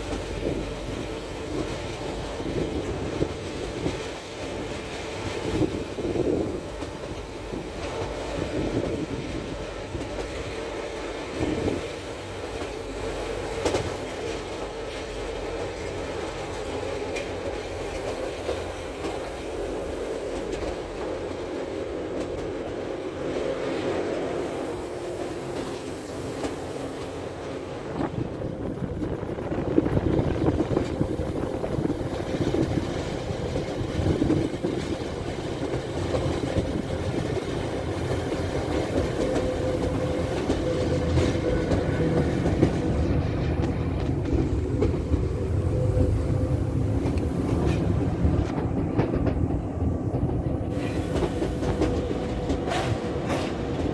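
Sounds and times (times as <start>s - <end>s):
train motor humming: 0.0s - 53.9s.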